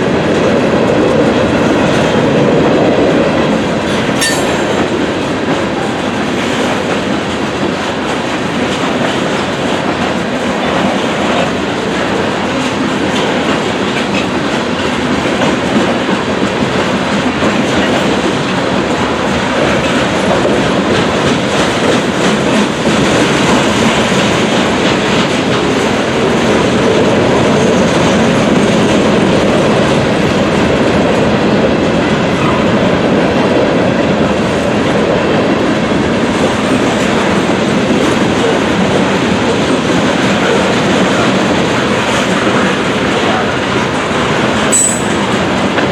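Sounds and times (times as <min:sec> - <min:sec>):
freight train wheels rumbling: 0:00.0 - 0:45.9
train clickety-clack over rail joints: 0:00.0 - 0:45.9.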